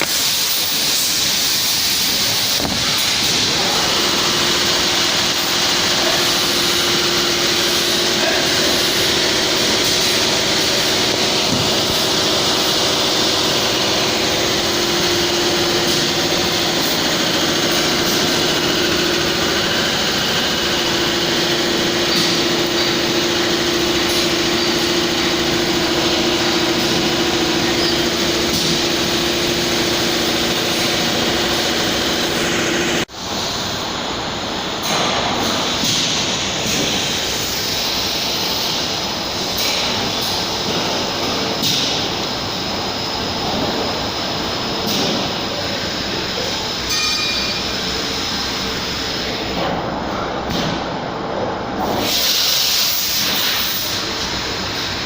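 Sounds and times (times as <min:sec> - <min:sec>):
welding machine hissing and humming: 0:00.0 - 0:55.0.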